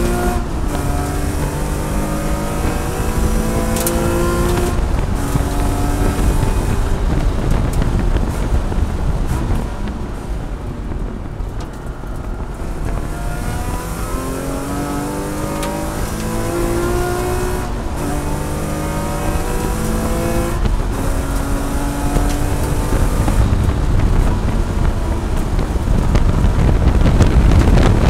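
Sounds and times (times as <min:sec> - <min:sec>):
race car engine accelerating: 0:00.0 - 0:28.0.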